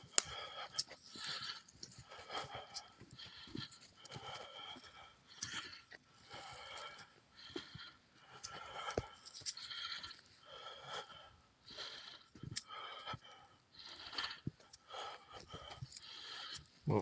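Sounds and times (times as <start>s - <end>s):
person breathing hard and wheezily: 0.0s - 17.0s.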